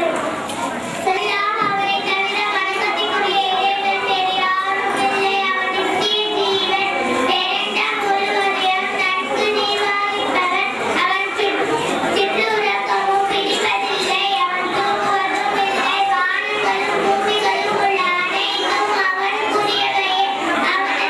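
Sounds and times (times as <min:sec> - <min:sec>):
girl singing into a microphone: 0:01.0 - 0:21.0.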